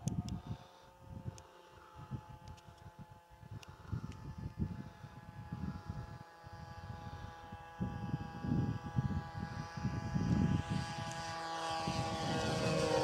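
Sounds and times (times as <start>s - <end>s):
model aeroplane motor whining: 0.0s - 13.0s
wind on microphone: 0.0s - 13.0s.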